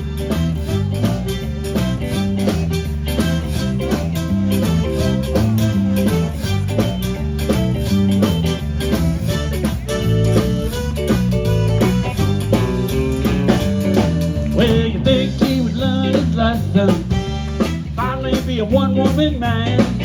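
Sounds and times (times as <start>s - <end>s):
blues-rock band playing: 0.0s - 20.0s
electric guitar: 0.0s - 20.0s.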